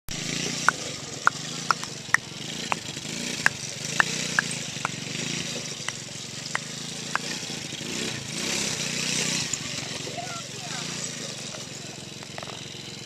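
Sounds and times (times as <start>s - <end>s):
atv engine running: 0.1s - 13.0s.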